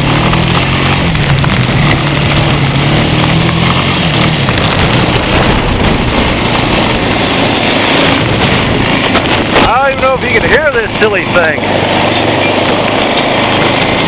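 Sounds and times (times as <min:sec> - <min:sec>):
engine running: 0:00.0 - 0:14.0
wind buffeting microphone: 0:00.0 - 0:14.0.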